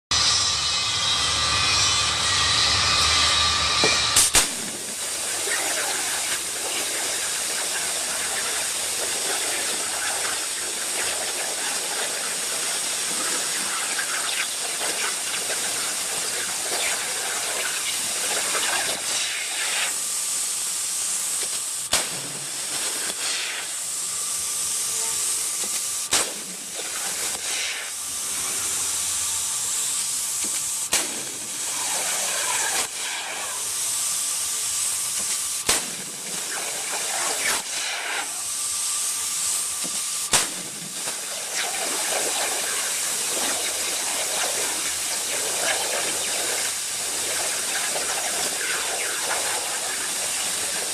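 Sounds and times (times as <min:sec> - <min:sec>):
faint steady whine: 0:00.1 - 0:50.9
plasma torch hissing: 0:00.1 - 0:50.9.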